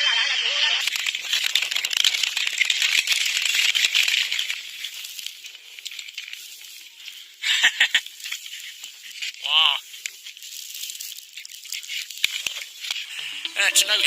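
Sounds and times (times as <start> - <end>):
stones clattering in mudflow: 0.8 - 13.1.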